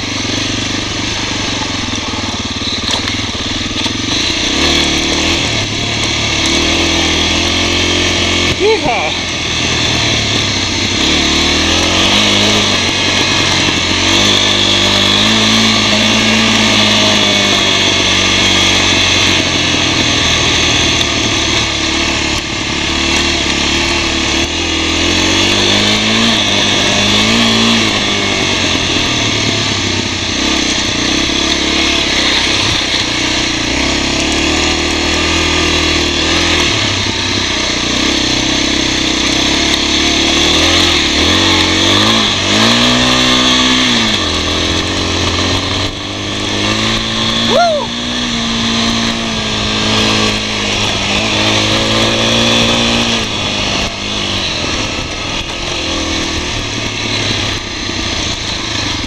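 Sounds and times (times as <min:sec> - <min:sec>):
motorcycle engine revving: 0:00.0 - 0:59.0
wind and tyres on dirt: 0:00.0 - 0:59.0.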